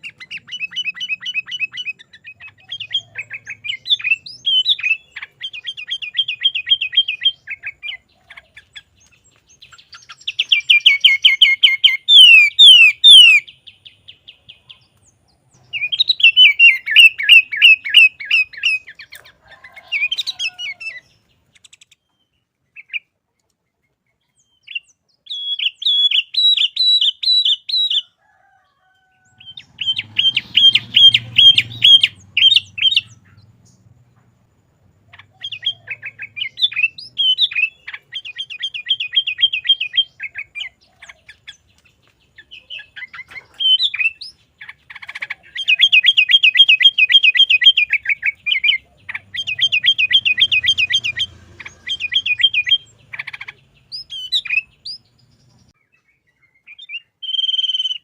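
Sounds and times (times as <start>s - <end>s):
bird singing rapid repeated notes: 0.0s - 28.1s, 29.4s - 58.0s.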